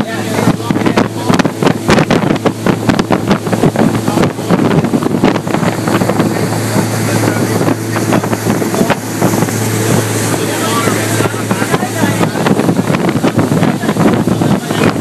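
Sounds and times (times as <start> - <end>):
motorboat engine hum: 0.0 - 15.0
rushing water: 0.0 - 15.0
wind buffeting microphone: 0.0 - 15.0.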